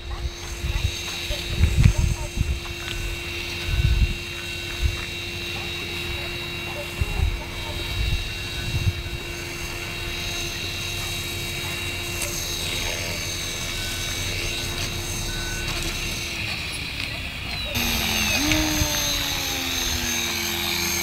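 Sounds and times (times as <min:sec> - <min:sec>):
rc helicopter whine: 0:00.0 - 0:21.0.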